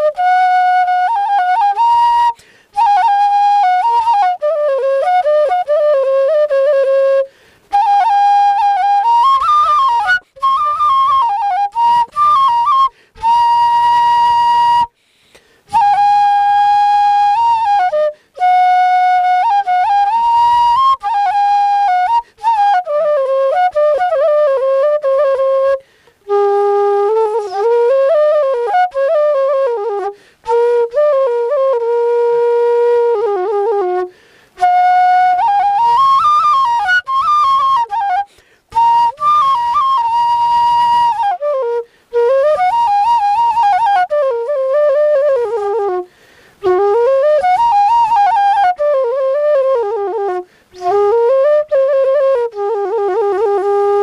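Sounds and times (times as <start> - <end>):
bamboo flute folk melody: 0.0 - 54.0.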